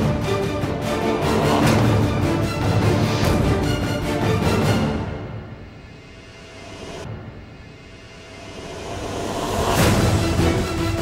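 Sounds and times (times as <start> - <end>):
background theme music: 0.0 - 11.0.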